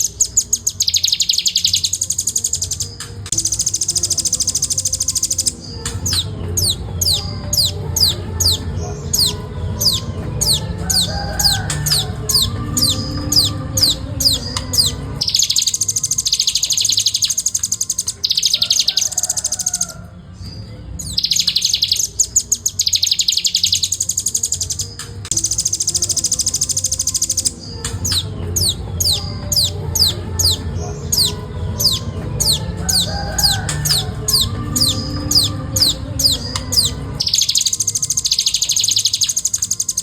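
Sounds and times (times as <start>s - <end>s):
bird chattering trills: 0.0s - 20.2s, 21.0s - 40.0s.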